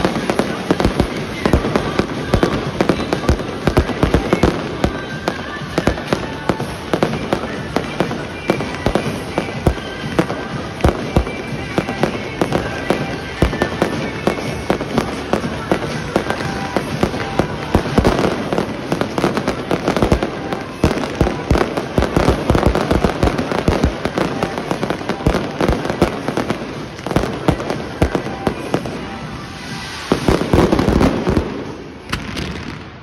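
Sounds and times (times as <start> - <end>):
firework bangs: 0.0 - 33.0
firework crackling: 0.0 - 33.0.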